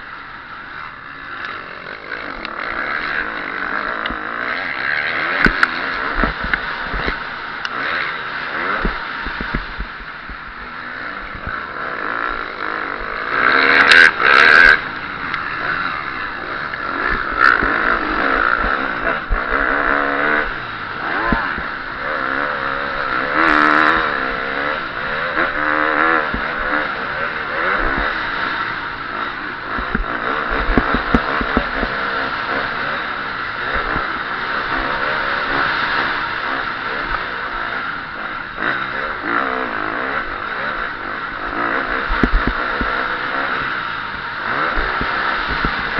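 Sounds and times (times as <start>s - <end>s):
motocross engine revving: 0.0s - 45.9s.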